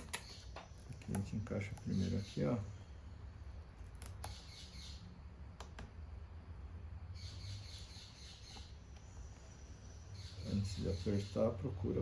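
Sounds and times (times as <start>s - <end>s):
faint high chirping: 0.0s - 5.5s, 6.8s - 12.0s
steady low hum: 0.0s - 12.0s.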